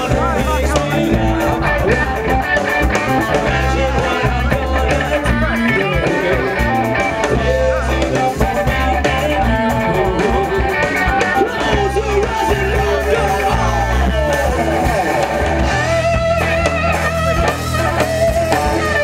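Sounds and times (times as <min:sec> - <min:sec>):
person singing into microphone: 0:00.0 - 0:15.2
deep bass notes: 0:00.0 - 0:19.0
drum kit: 0:00.0 - 0:19.0
electric guitar: 0:00.0 - 0:19.0.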